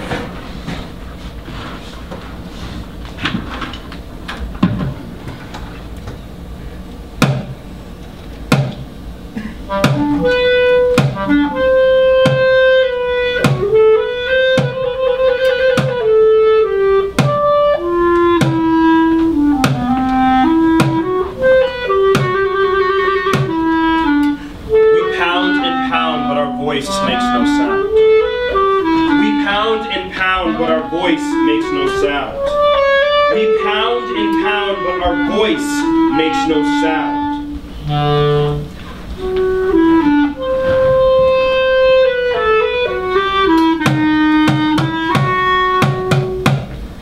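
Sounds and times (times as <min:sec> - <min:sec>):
clarinet slow melody: 0:09.2 - 0:47.0.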